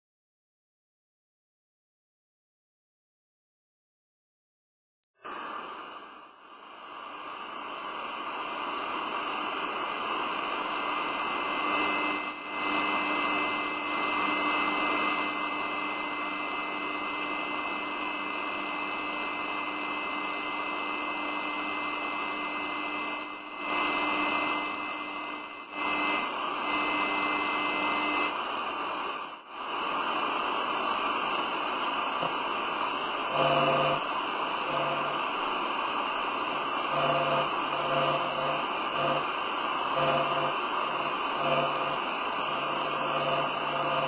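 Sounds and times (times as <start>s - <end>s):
faint steady hum: 5.2s - 44.0s.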